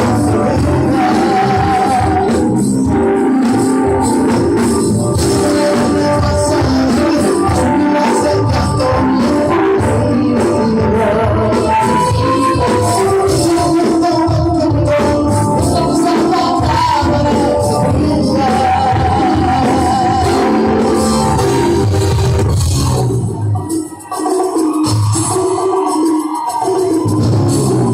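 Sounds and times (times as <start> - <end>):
person singing: 0.0 - 22.4
live band playing pop song: 0.0 - 27.9.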